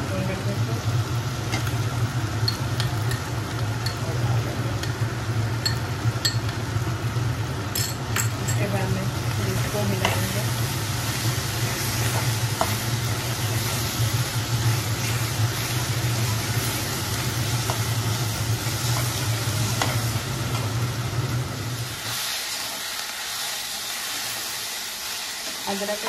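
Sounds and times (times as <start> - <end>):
steady low hum: 0.0 - 22.0
onions sizzling in hot oil: 0.0 - 26.0.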